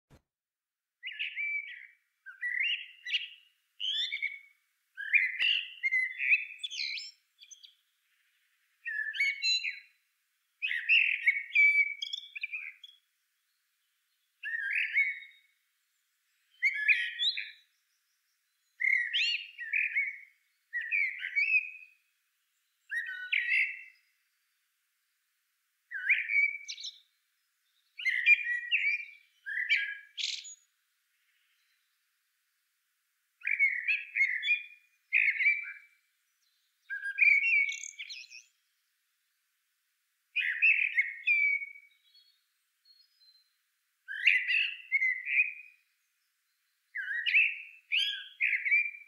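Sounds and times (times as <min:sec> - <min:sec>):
bird chirping: 0:01.0 - 0:25.3, 0:25.9 - 0:32.7, 0:33.4 - 0:39.5, 0:40.3 - 0:49.0.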